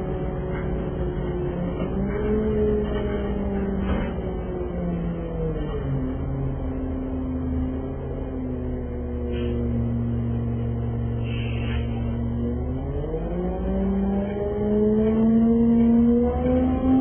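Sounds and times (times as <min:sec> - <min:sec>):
bus engine rising in pitch: 0:00.0 - 0:17.0.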